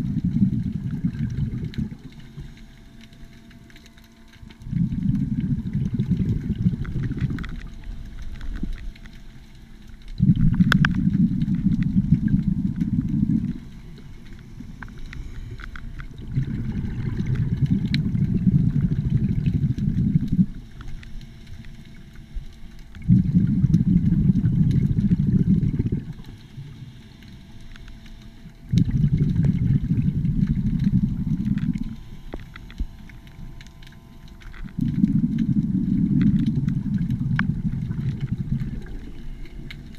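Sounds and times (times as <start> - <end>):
underwater exhaled bubbles rumbling: 0.0 - 39.9.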